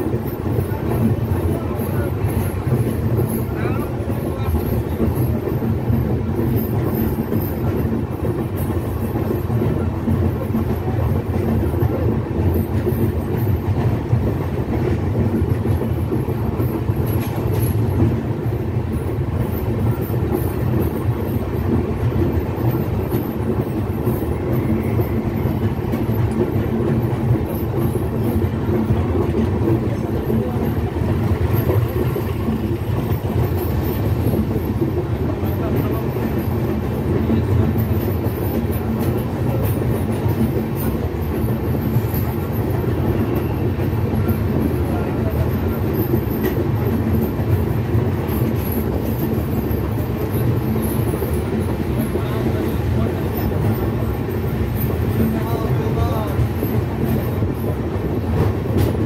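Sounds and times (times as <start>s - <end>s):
faint clickety-clack: 0.0s - 59.0s
train wheels rumbling on rails: 0.0s - 59.0s.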